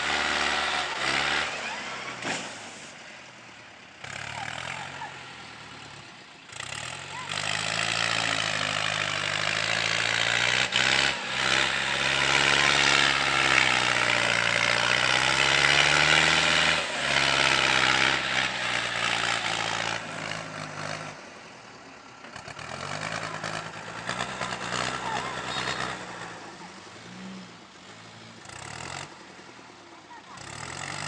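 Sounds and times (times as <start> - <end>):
heavy vehicle engine running: 0.0 - 31.0.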